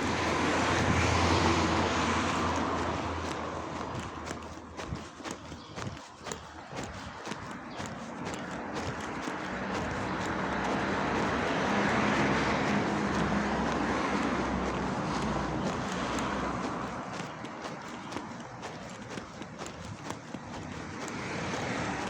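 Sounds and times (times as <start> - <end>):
vehicle engine and tyre noise passing: 0.0 - 22.0.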